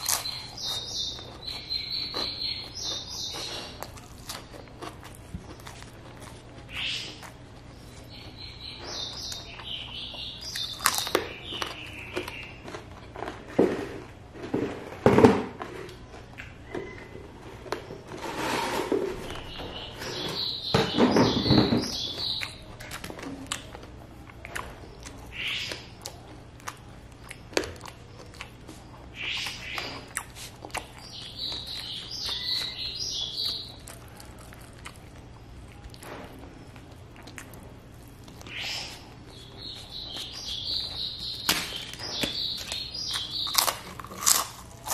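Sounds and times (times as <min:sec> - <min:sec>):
man chewing: 0:00.0 - 0:14.9, 0:21.8 - 0:44.9.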